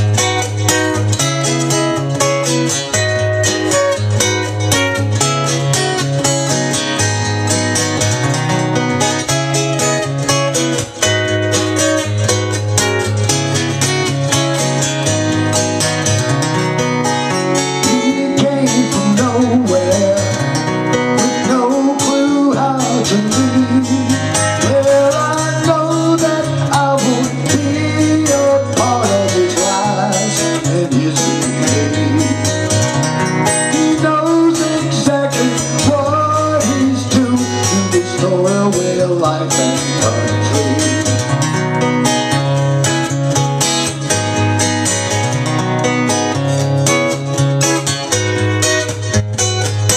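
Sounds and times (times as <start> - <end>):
fingerpicked acoustic guitar: 0.0 - 49.9.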